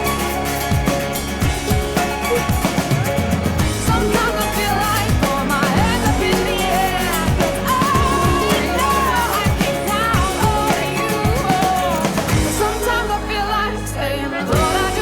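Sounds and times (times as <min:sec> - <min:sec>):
drums with steady beat: 0:00.0 - 0:13.3, 0:14.5 - 0:15.0
pop song with singing: 0:00.0 - 0:15.0.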